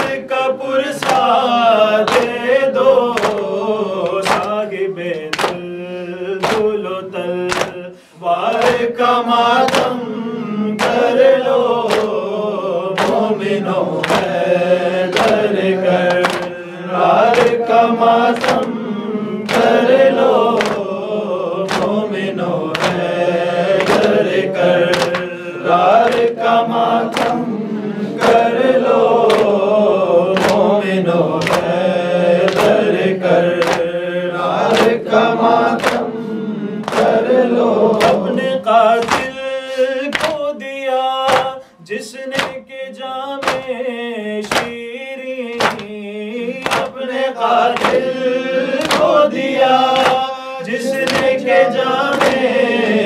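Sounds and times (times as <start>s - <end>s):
hands slapping chests: 0.0s - 0.2s, 1.0s - 5.8s, 6.4s - 7.9s, 8.5s - 10.0s, 10.8s - 40.5s, 41.3s - 41.6s, 42.3s - 42.6s, 43.4s - 43.8s, 44.4s - 44.8s, 45.6s - 47.0s, 47.6s - 53.0s
men chanting in unison: 0.0s - 53.0s.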